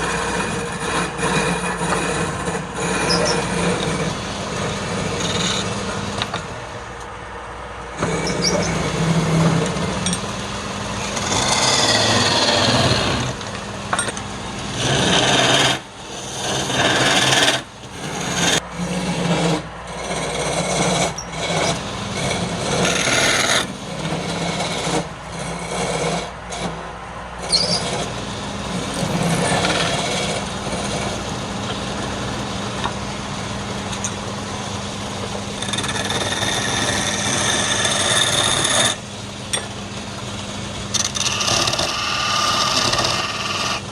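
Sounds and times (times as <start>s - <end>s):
tool scraping spinning wood: 0.0s - 7.2s, 7.9s - 43.9s
wood lathe humming: 0.0s - 26.8s, 27.4s - 43.9s.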